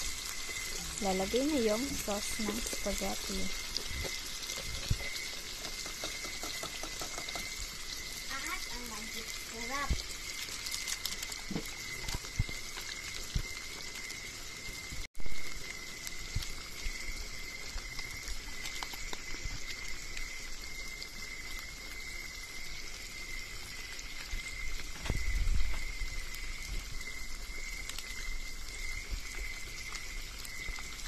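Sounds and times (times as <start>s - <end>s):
food frying in oil: 0.0s - 31.0s.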